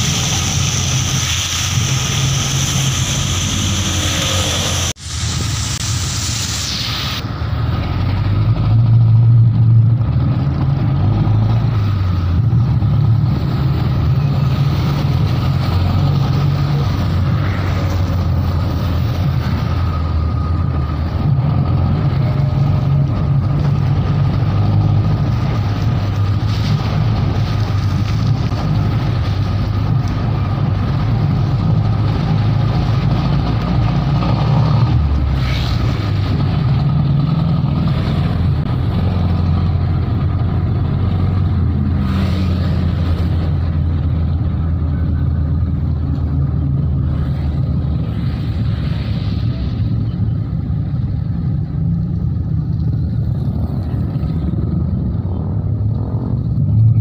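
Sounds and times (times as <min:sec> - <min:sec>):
tyres hissing on wet road: 0:00.0 - 0:54.8
vehicle engine droning: 0:00.0 - 0:57.0.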